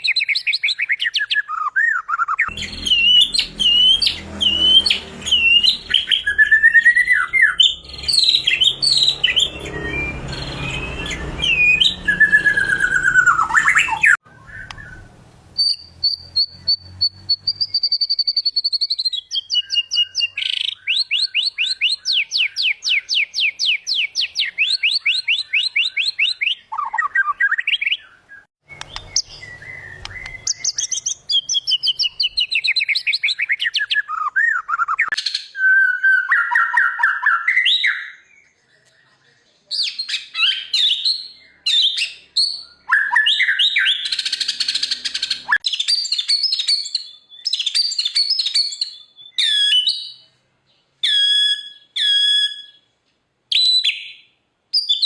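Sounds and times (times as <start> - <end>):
bird singing whistles: 0.0 - 38.6, 39.8 - 50.2, 51.0 - 52.9, 53.5 - 55.0.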